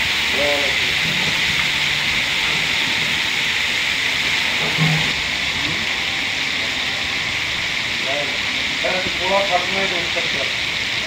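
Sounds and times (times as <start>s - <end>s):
lentils sizzling on griddle: 0.0s - 11.0s.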